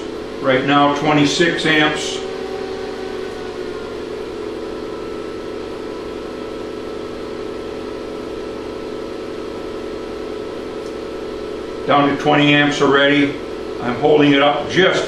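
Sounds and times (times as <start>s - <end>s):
induction heater humming and whirring: 0.0s - 15.0s.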